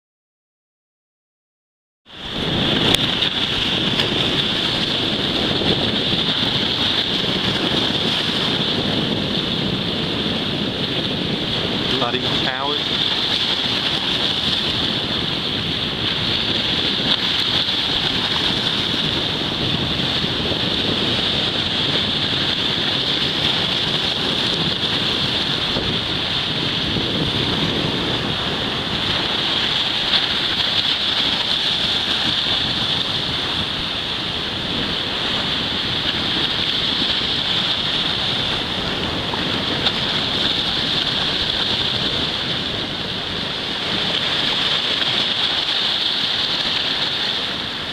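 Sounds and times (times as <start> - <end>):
sea waves and surf: 2.1 - 47.9
wind on microphone: 2.1 - 47.9.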